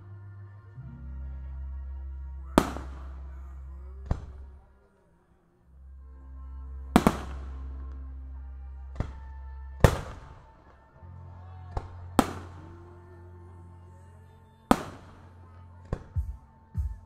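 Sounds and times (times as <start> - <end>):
sustained music chords: 0.0 - 17.0.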